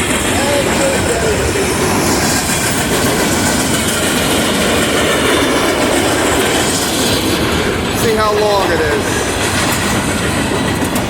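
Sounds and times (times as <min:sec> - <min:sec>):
freight cars rolling on rails: 0:00.0 - 0:11.0.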